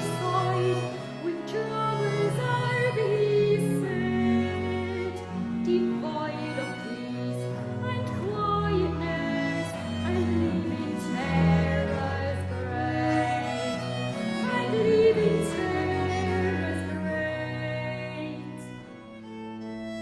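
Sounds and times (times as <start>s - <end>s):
viols playing slow song: 0.0s - 20.0s.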